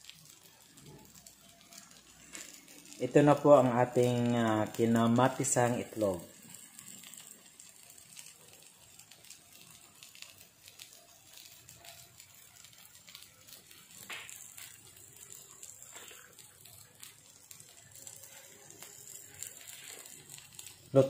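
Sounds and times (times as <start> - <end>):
food frying with small pops: 0.0 - 21.0.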